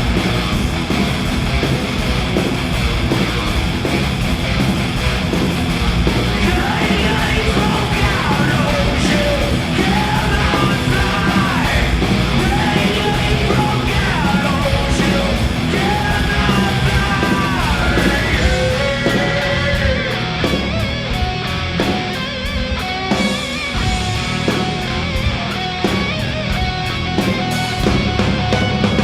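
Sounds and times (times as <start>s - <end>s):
bass guitar: 0.0s - 29.0s
distorted electric guitars: 0.0s - 29.0s
drums: 0.0s - 29.0s
yelled vocals: 0.0s - 29.0s.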